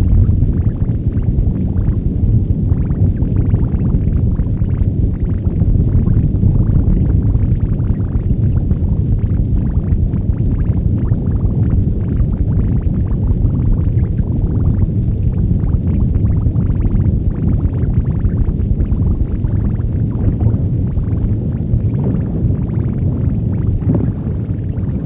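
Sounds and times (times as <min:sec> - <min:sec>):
constant crackle: 0:00.0 - 0:25.0
dense low noise rumble: 0:00.0 - 0:25.0.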